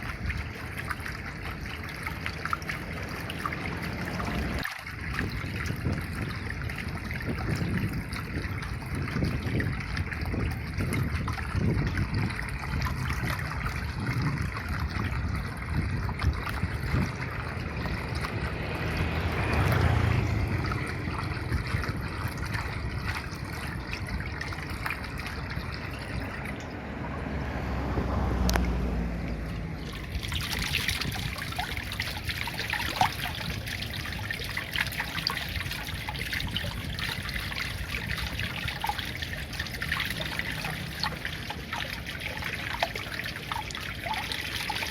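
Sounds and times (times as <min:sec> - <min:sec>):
water trickling and flowing: 0:00.0 - 0:44.9.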